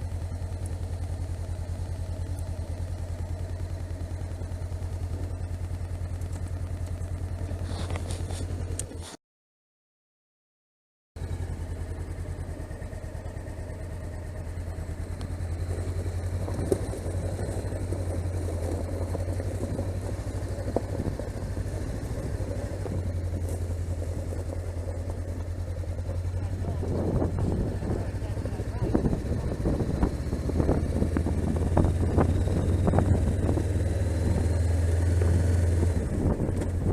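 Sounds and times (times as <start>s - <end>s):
motorcycle engine running: 0.0s - 9.2s, 11.2s - 36.9s.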